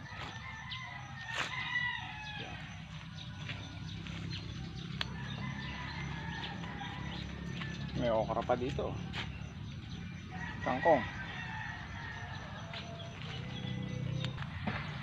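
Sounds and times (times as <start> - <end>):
rooster crowing: 0.0 - 15.0.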